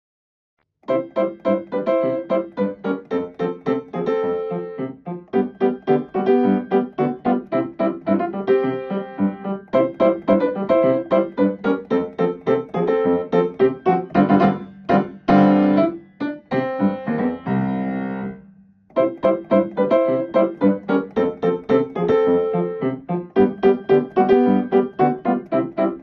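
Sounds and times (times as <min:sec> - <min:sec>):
piano music: 0:00.9 - 0:26.0.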